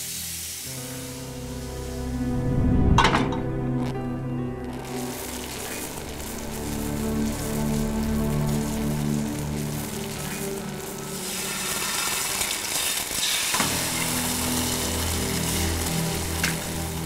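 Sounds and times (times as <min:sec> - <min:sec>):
eggs sizzling in a pan: 0:00.0 - 0:02.0, 0:04.6 - 0:17.0
slow background music: 0:00.0 - 0:17.0.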